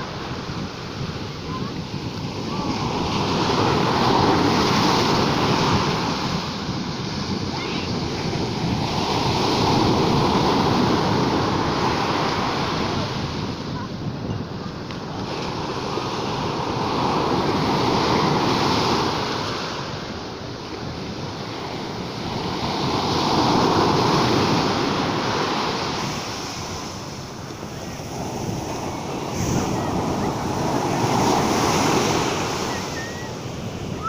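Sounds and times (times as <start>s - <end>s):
sea waves surging: 0.0s - 34.0s.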